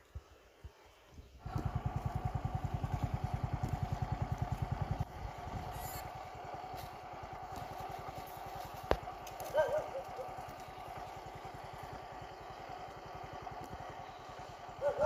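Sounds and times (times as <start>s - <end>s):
engine running with fast beat: 1.4s - 15.0s.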